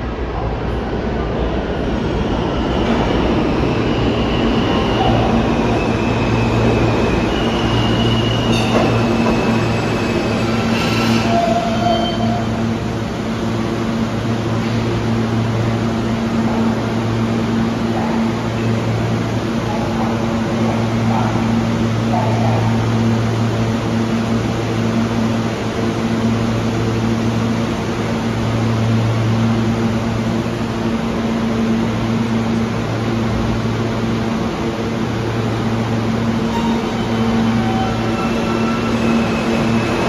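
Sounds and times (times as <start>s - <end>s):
train wheels on rails: 0.8s - 40.0s.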